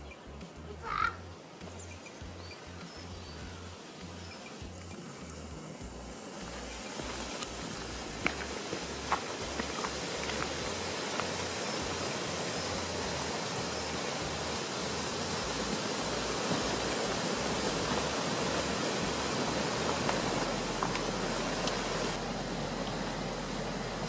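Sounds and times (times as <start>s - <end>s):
steady rushing noise: 0.0s - 24.0s.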